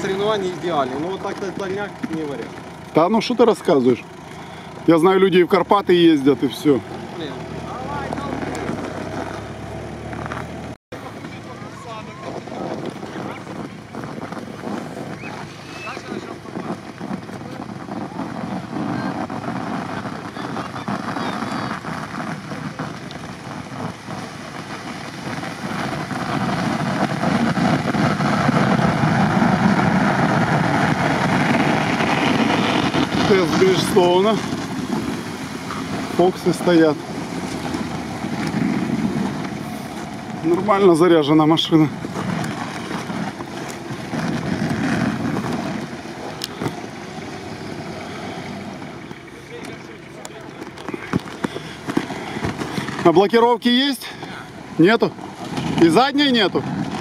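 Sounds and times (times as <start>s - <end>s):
car engine running: 0.0s - 57.0s
tyres crunching in snow: 0.0s - 57.0s.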